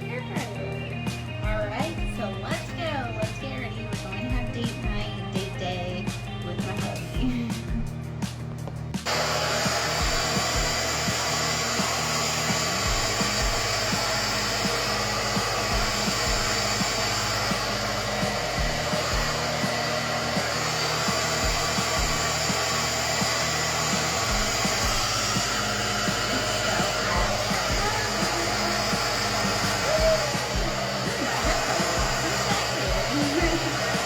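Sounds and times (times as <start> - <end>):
hair dryer blowing: 0.0 - 34.0.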